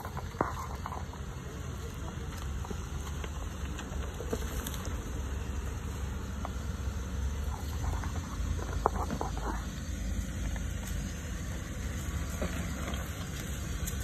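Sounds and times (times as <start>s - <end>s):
engine running low: 0.0s - 14.0s
tyres crunching over rock: 0.0s - 14.0s.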